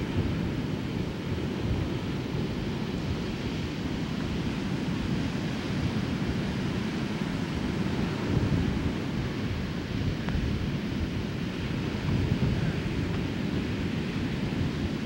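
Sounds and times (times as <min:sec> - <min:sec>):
ocean surf breaking: 0:00.0 - 0:15.0
wind noise on microphone: 0:00.0 - 0:15.0.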